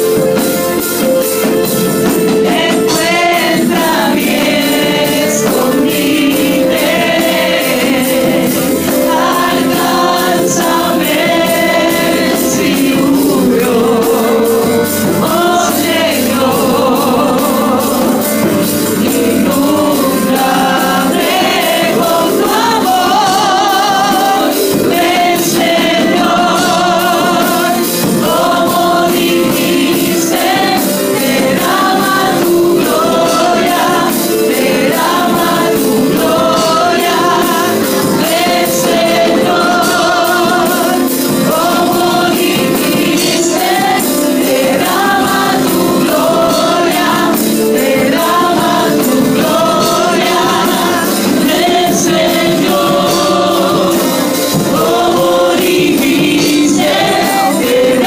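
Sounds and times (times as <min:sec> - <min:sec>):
congregation singing with band: 0:00.0 - 0:58.0
drum beat: 0:00.0 - 0:58.0.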